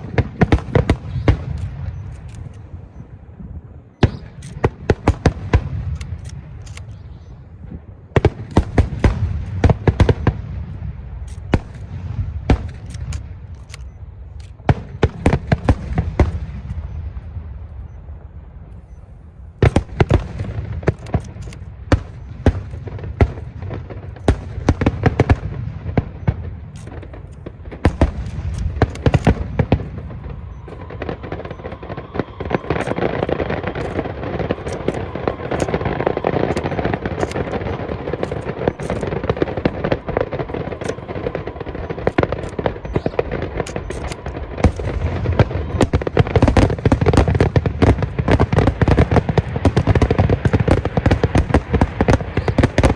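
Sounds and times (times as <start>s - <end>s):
fireworks cracks and booms: 0.0s - 6.6s, 7.5s - 13.5s, 14.3s - 18.7s, 19.6s - 52.9s.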